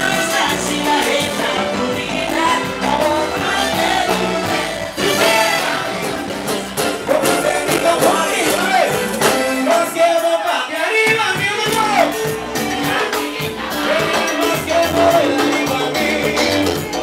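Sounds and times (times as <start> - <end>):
conga drums: 0.0 - 17.0
latin dance band playing: 0.0 - 17.0
person singing into microphone: 0.0 - 17.0.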